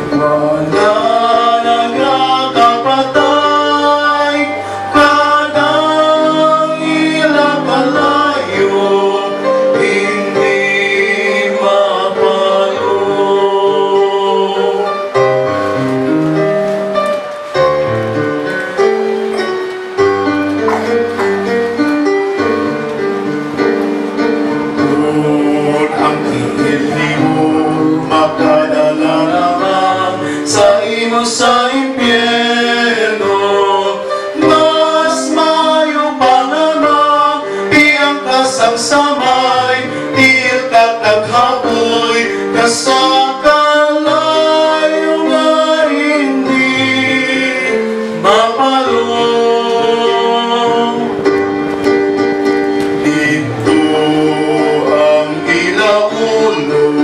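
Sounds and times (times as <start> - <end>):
two men singing a duet: 0.0 - 15.5, 24.7 - 51.4, 52.8 - 57.0.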